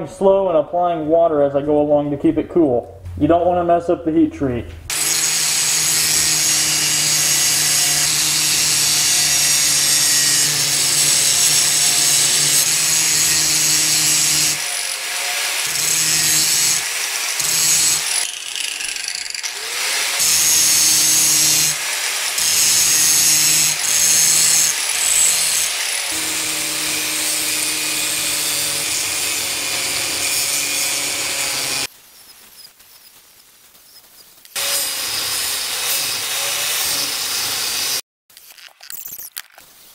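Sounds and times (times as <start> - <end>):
angle grinder grinding steel: 4.9 - 31.9, 33.9 - 39.6.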